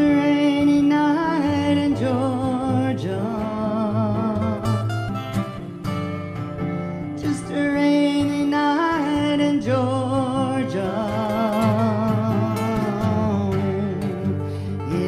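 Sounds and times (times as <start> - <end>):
woman singing: 0.0 - 4.9, 7.2 - 15.0
acoustic guitar: 0.0 - 15.0.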